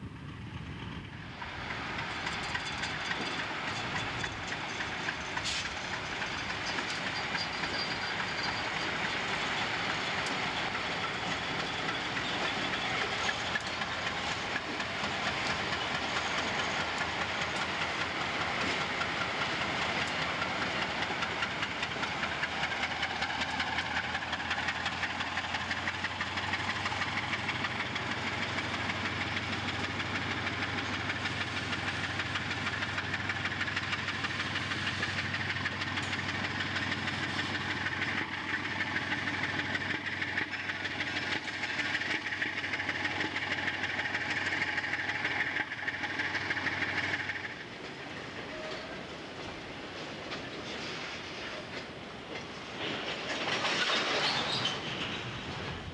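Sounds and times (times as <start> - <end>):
diesel engine drone: 0.0 - 50.0
train wheels rumbling on rails: 0.0 - 55.9.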